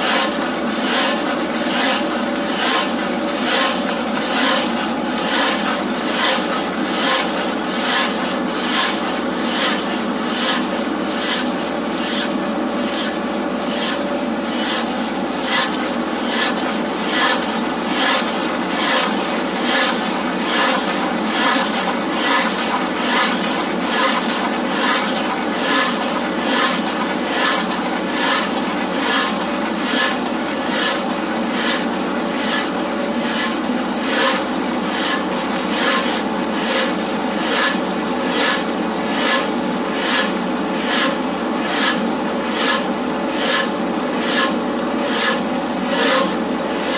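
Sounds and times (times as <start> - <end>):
auger grinding stump: 0.0 - 46.9.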